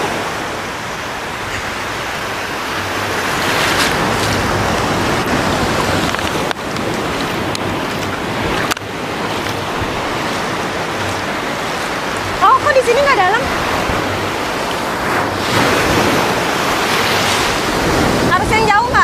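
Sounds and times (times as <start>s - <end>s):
small waves breaking on beach: 0.0s - 19.0s.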